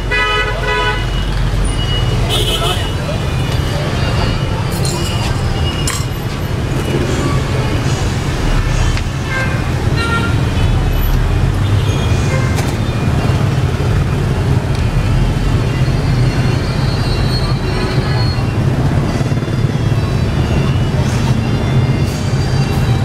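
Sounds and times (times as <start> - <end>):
motorbike traffic rumble: 0.0 - 23.0.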